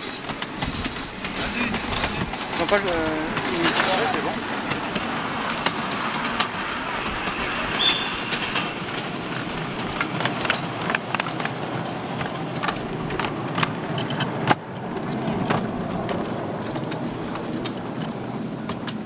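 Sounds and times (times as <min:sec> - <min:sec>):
miniature train rumbling past: 0:00.0 - 0:19.0
wheels clicking on rails: 0:00.0 - 0:19.0.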